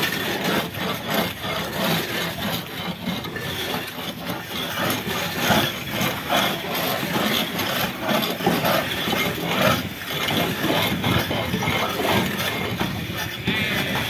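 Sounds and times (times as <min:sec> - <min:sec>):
scraper rasping on boat hull: 0:00.0 - 0:14.0.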